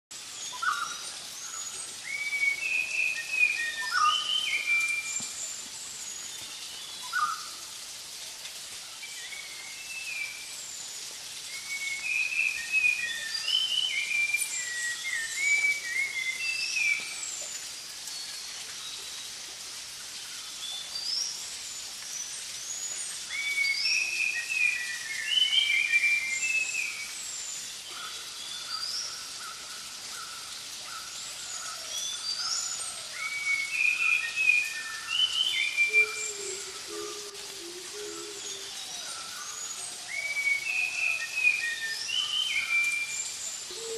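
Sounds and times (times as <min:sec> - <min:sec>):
steady background hiss: 0:00.1 - 0:43.9.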